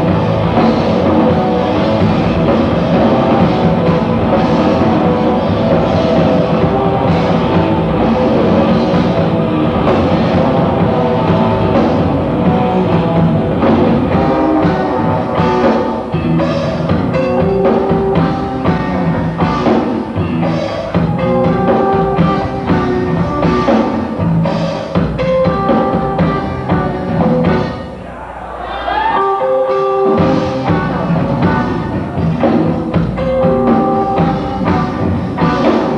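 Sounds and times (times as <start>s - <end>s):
rock band playing live: 0.0s - 35.9s.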